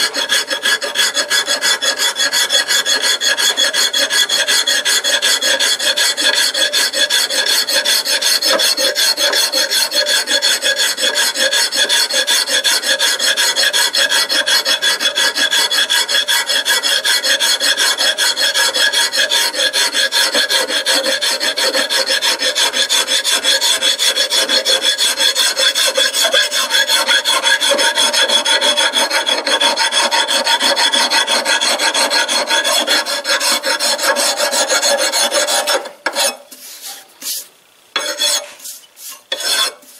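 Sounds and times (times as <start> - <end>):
lathe cutting metal: 0.0 - 36.3.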